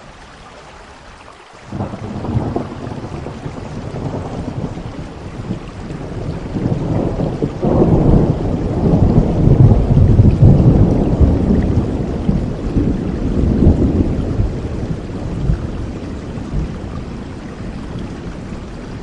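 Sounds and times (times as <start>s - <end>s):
steady rain: 0.0s - 19.0s
thunder rumbling: 1.7s - 19.0s.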